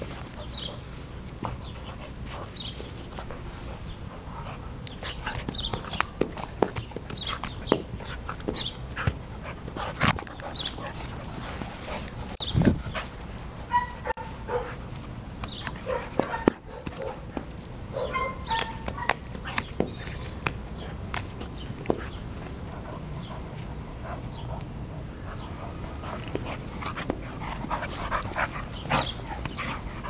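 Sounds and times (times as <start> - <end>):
dog scuffling with rope toy: 0.0 - 24.5, 25.4 - 30.0.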